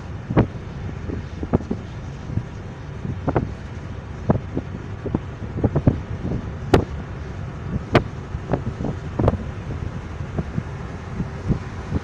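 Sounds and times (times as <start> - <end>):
car road and wind rush: 0.0 - 12.0
wind buffets on microphone: 0.0 - 12.0.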